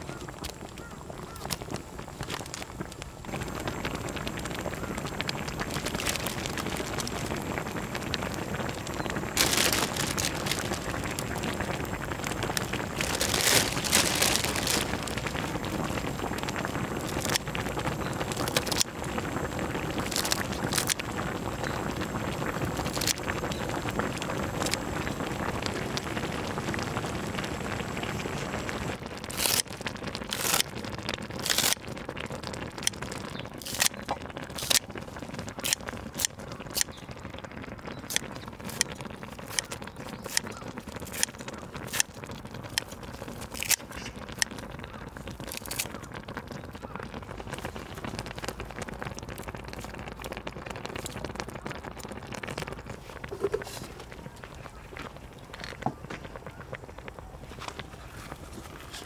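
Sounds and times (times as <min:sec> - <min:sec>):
stew bubbling: 0:00.0 - 0:59.0.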